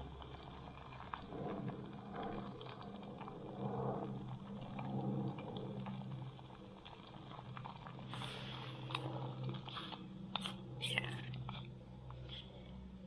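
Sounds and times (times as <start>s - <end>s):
gas stove burning: 0.0s - 13.0s
sauce bubbling and popping: 0.0s - 13.0s.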